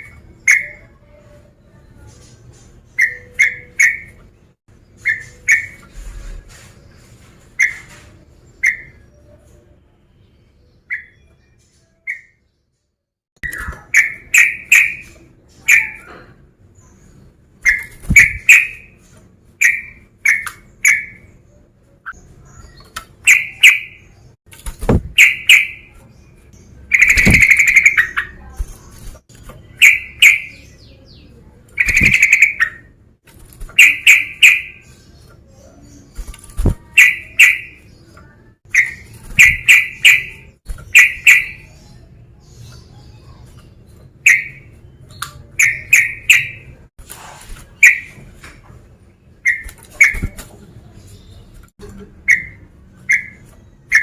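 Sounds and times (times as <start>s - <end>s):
bird chirping: 0.0s - 33.0s, 33.7s - 46.9s, 47.7s - 48.4s, 49.0s - 54.0s.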